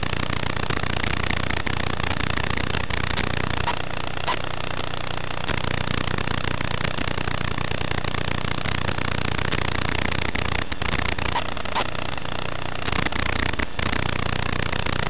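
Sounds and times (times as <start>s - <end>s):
low buzz: 0.0s - 15.0s
static hiss: 0.0s - 15.0s.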